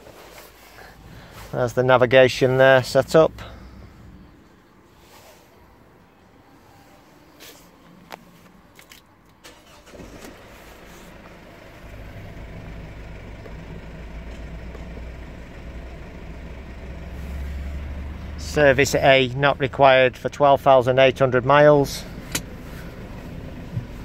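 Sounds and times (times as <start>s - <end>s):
diesel engine starting and idling: 0.5s - 8.2s, 9.4s - 24.0s.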